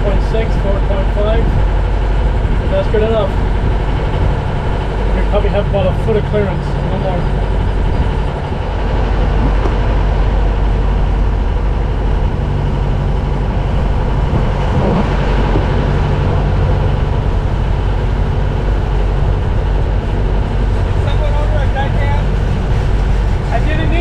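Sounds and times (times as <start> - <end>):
boat engine droning: 0.0 - 24.0
rushing noise: 0.0 - 24.0.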